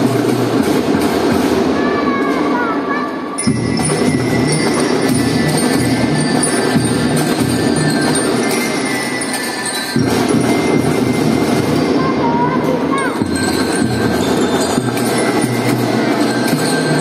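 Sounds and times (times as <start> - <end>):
marching drum rhythm: 0.0 - 2.8, 3.4 - 17.0
metallic bell-like melody: 3.3 - 17.0.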